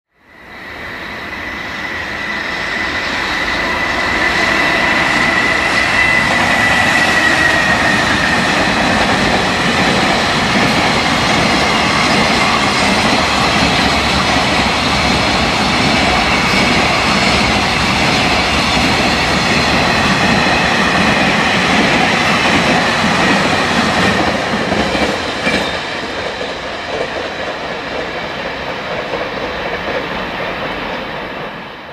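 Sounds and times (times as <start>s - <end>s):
train wheels rumbling on rail: 0.6s - 31.9s.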